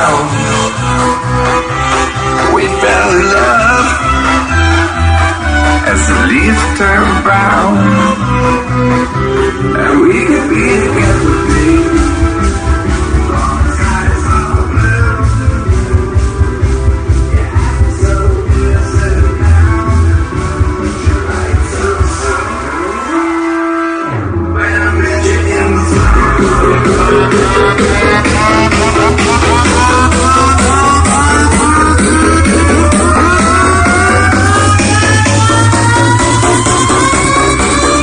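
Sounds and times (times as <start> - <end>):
dance music with heavy bass: 0.0 - 38.0.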